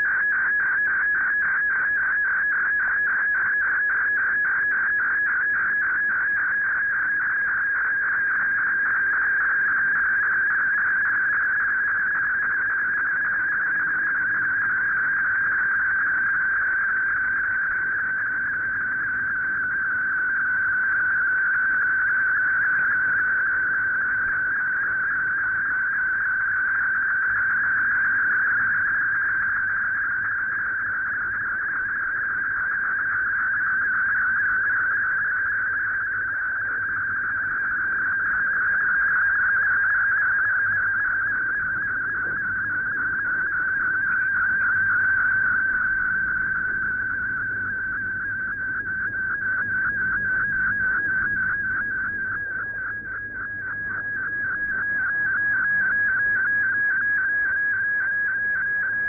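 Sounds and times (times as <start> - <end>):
fast-warbling data tones: 0.0 - 59.0.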